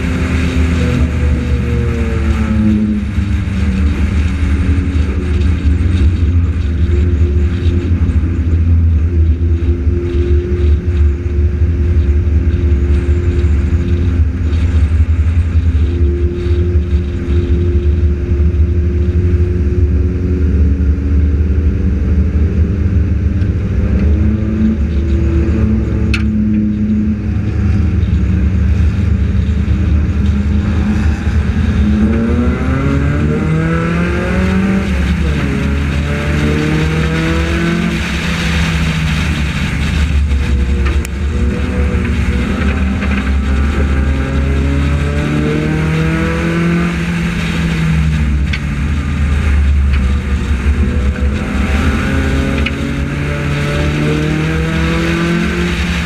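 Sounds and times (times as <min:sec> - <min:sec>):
race car engine: 0:00.0 - 0:56.0.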